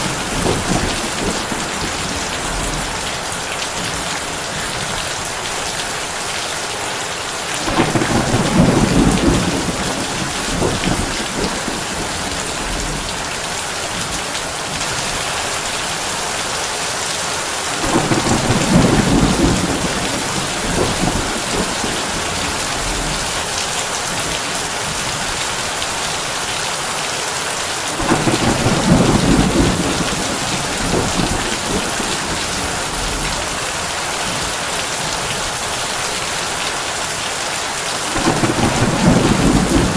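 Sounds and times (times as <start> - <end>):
thunder rumbling: 0.0 - 6.1, 7.4 - 16.4, 17.4 - 25.8, 27.9 - 36.4, 38.1 - 39.9
heavy rain on a tin roof: 0.0 - 39.9.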